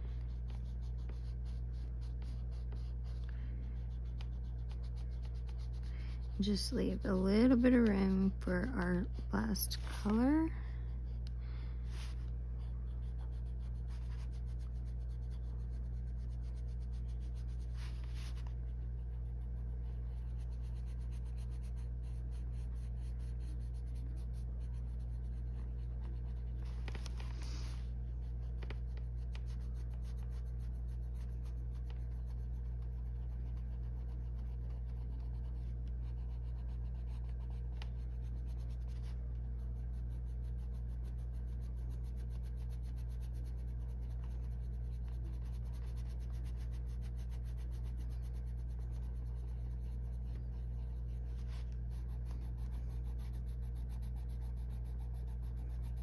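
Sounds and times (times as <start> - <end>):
pencil scratching on paper: 0.0 - 56.0
steady low hum: 0.0 - 56.0.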